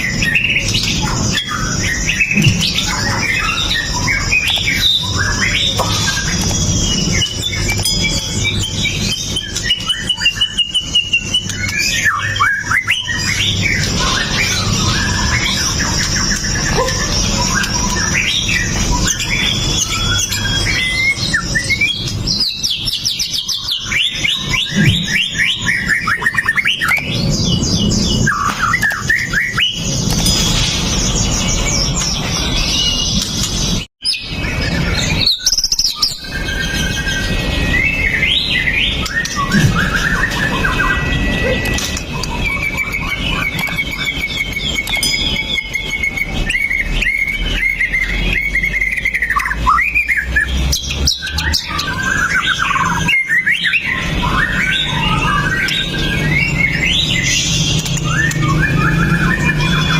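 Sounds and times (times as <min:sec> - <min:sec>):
songbird singing trills and whistles: 0:00.0 - 0:59.9.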